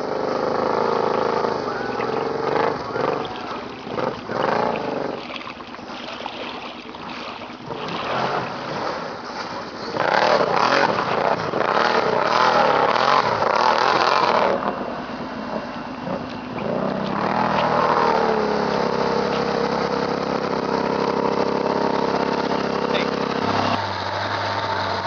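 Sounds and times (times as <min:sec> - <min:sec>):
atv engines revving: 0:00.0 - 0:25.0.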